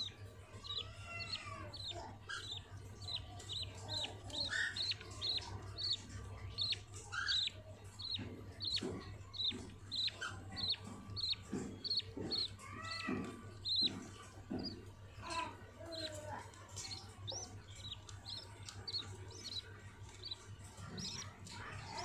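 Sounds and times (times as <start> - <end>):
budgerigars chirping: 0.0 - 14.8, 15.9 - 22.0.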